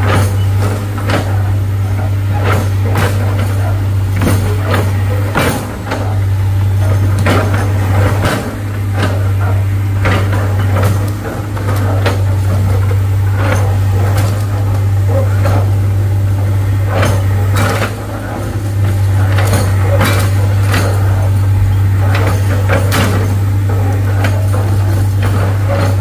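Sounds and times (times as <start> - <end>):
diesel engine droning: 0.0 - 26.0
sharp metallic knocks and clanks: 0.0 - 26.0.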